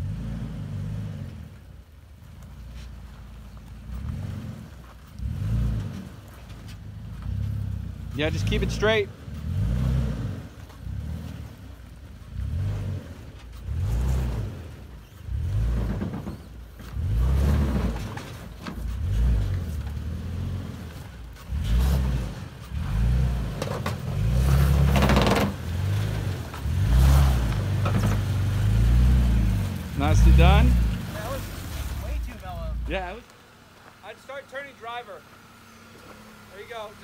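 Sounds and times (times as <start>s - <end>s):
pickup truck engine revving: 0.0s - 1.7s, 3.7s - 33.9s.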